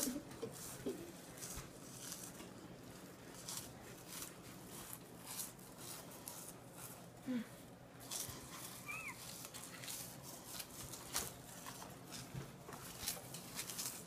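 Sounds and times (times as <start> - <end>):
crackers being chewed: 0.0 - 14.0.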